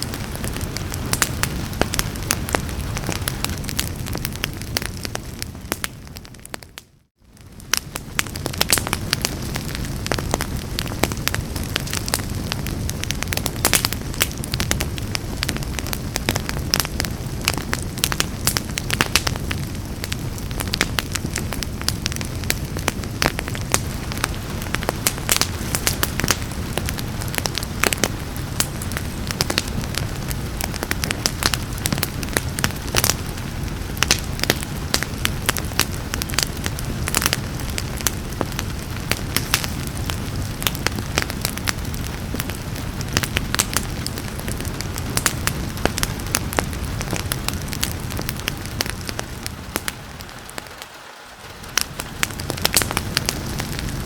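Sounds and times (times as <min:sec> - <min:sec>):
wood fire crackling: 0:00.0 - 0:54.0
rain hiss: 0:07.6 - 0:54.0.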